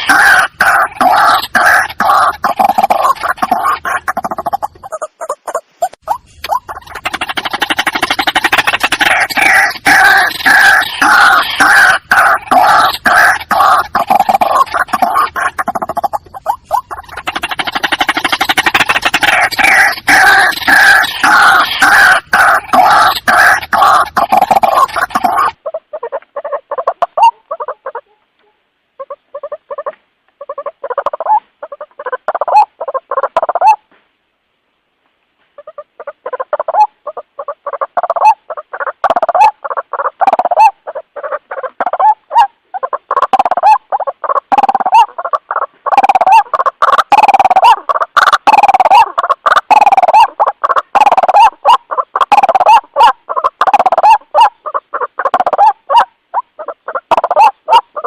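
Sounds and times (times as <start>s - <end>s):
bird croaking calls: 0.0s - 33.8s, 35.6s - 58.0s.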